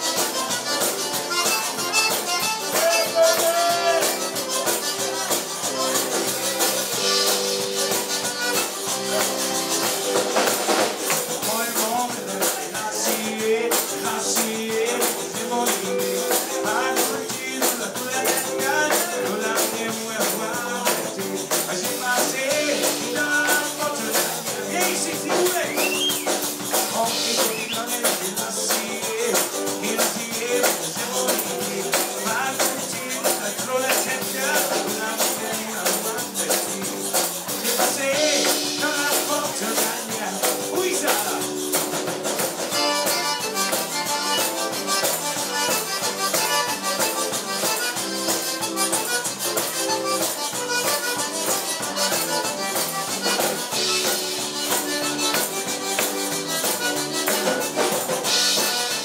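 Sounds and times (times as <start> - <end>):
accordion: 0.0 - 59.0
drums: 0.0 - 59.0
electric bass guitar: 0.0 - 59.0.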